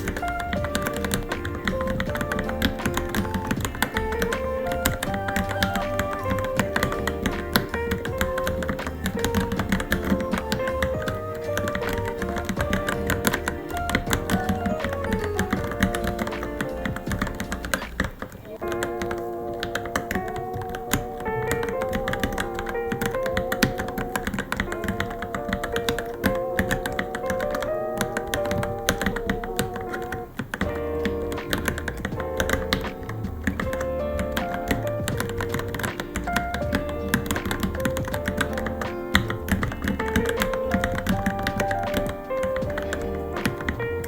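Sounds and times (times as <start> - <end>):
background music with melody: 0.0 - 44.0
fast typing on mechanical keyboard: 0.0 - 44.0.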